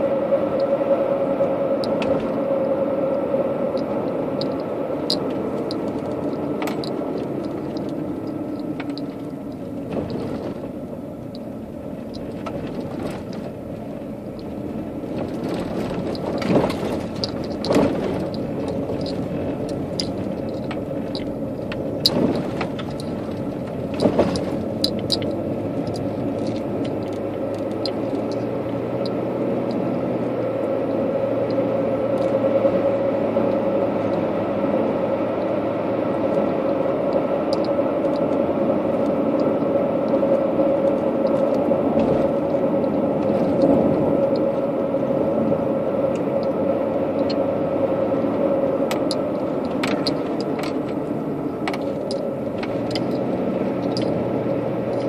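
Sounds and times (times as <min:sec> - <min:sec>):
car tyres and engine droning: 0:00.0 - 0:55.0.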